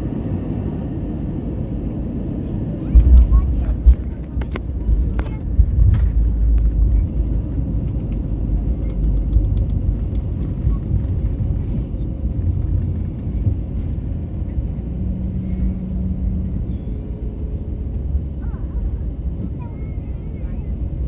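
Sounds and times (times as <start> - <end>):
airliner landing rumble: 0.0 - 21.0.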